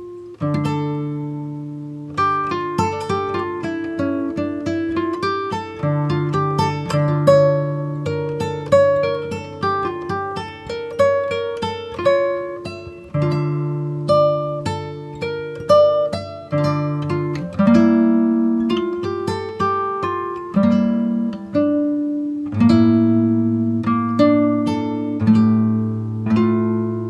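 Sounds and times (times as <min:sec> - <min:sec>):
plucked acoustic guitar: 0:00.0 - 0:27.0.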